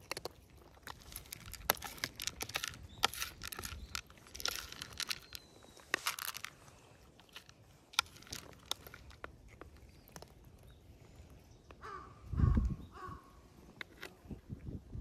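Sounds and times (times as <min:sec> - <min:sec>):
cats eating with crunches: 0:00.0 - 0:15.0.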